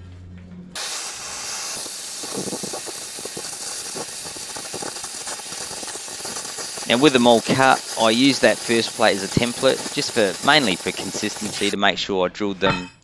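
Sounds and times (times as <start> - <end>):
cutting torch hissing: 0.8 - 11.8
faint irregular pops: 0.8 - 11.8.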